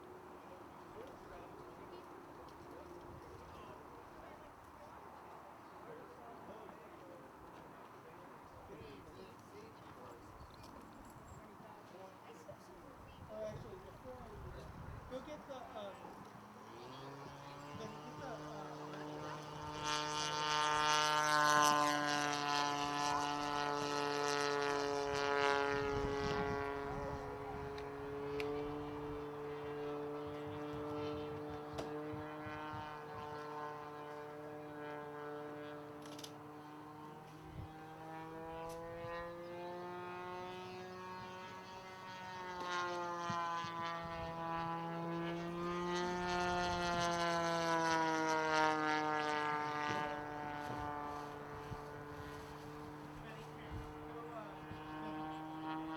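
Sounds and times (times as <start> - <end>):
model plane engine drone: 0.0 - 55.9.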